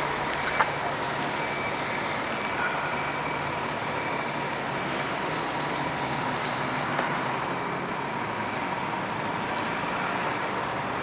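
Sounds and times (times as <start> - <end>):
fire truck diesel engine: 0.0 - 11.0.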